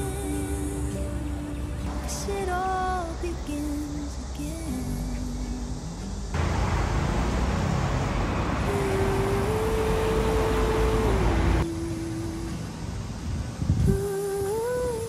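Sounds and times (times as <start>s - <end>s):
road traffic rush: 0.0s - 4.8s, 5.4s - 14.0s.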